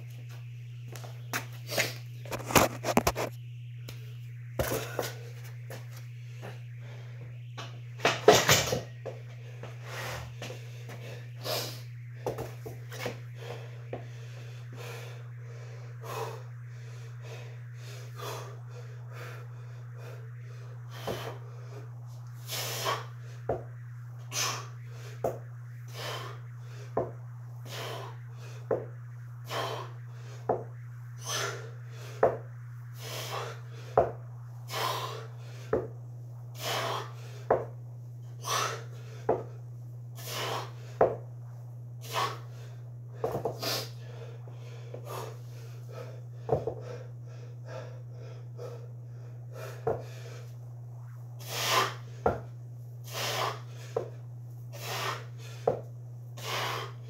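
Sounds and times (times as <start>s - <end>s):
steady low hum: 0.0s - 57.0s
man breathing heavily: 6.2s - 7.4s, 9.0s - 41.2s, 42.0s - 50.7s, 51.4s - 57.0s.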